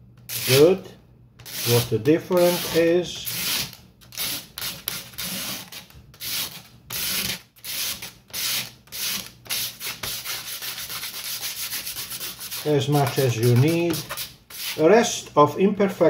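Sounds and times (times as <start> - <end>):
knife blade scraping wood: 1.4 - 14.8.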